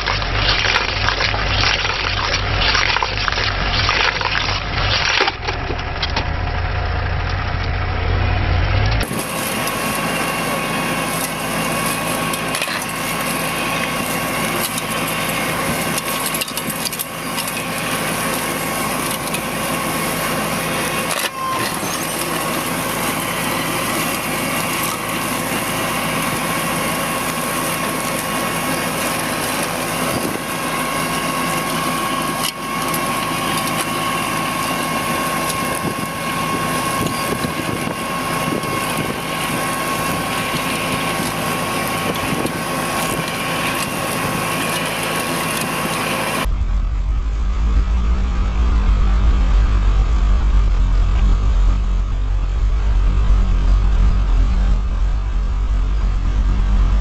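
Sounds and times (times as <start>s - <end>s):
machinery grinding and whining: 0.0s - 57.0s.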